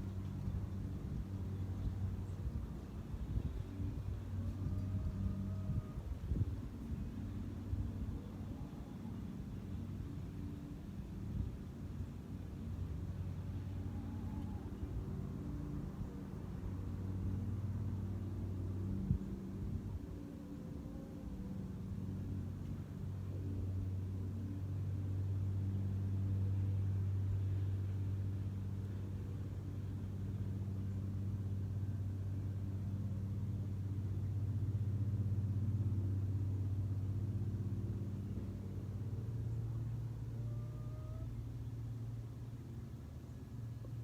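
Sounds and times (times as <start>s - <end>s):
low steady engine hum: 0.0s - 44.0s.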